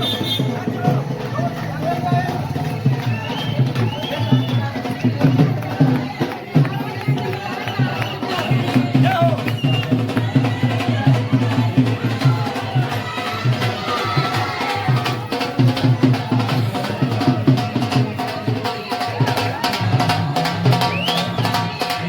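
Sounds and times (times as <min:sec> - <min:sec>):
music with driving drum beat: 0:00.0 - 0:22.0.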